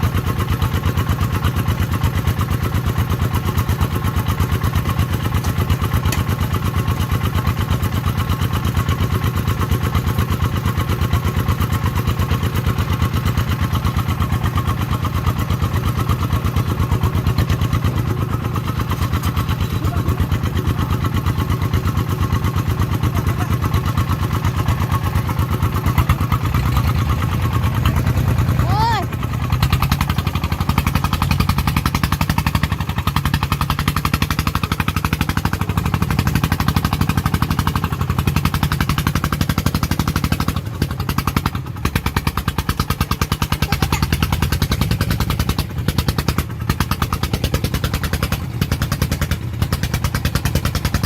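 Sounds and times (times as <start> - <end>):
diesel engine chugging: 0.0 - 51.0.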